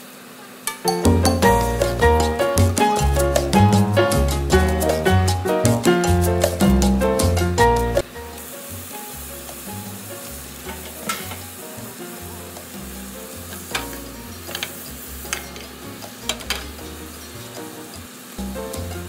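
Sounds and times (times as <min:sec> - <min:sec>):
steak sizzling in butter: 0:01.0 - 0:19.0.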